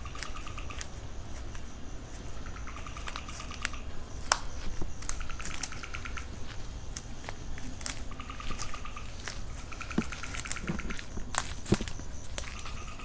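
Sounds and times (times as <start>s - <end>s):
footsteps on dry leaves and twigs: 0.0s - 13.0s
rapid ticking pulses: 0.0s - 13.0s.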